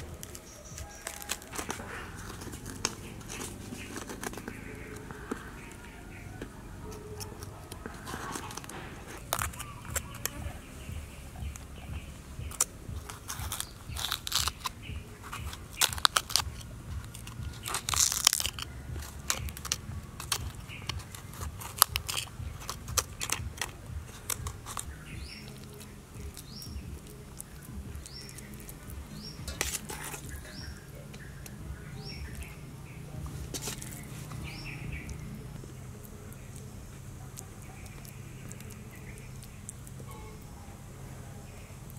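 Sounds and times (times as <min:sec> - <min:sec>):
knife cutting crunchy cabbage: 0:00.0 - 0:40.1
bird chirps: 0:00.0 - 0:41.9.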